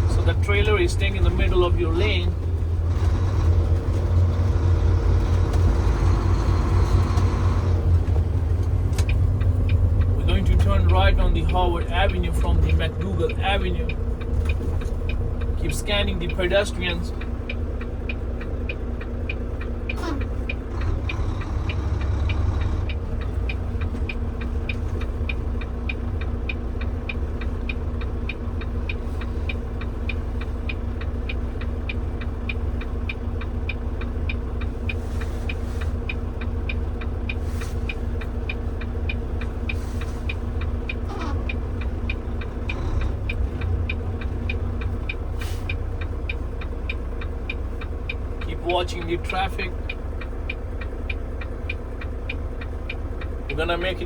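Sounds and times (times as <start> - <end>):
diesel engine rumbling: 0.0 - 54.0
turn signal ticking: 0.0 - 54.0.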